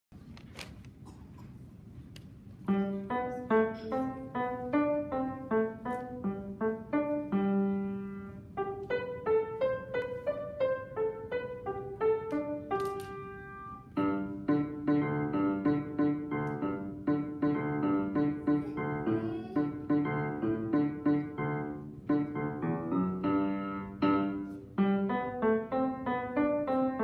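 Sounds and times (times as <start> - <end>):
grand piano playing: 2.6 - 27.0.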